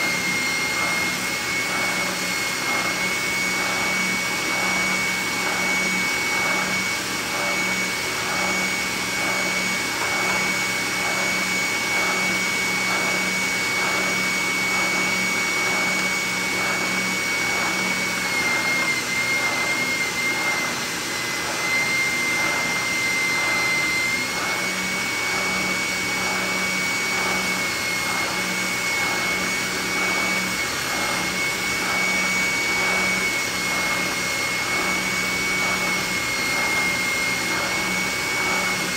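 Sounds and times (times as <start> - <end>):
shop vacuum running: 0.0 - 38.9
spindle sander whining: 0.0 - 38.9.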